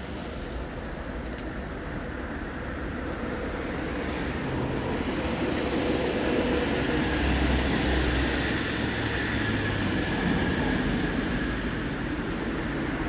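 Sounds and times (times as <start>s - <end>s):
passenger train running: 0.0s - 13.0s.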